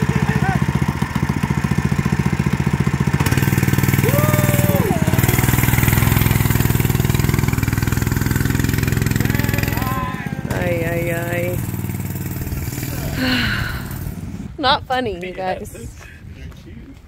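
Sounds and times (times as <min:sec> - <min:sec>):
small engine revving: 0:00.0 - 0:14.6.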